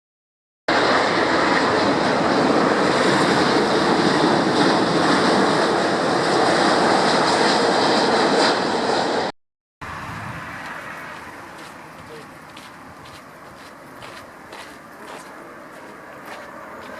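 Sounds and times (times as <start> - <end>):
jet engines roaring: 0.7 - 16.9.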